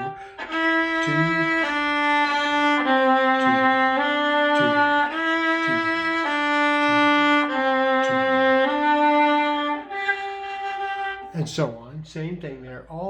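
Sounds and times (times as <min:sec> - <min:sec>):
viola bowed notes: 0:00.0 - 0:11.6.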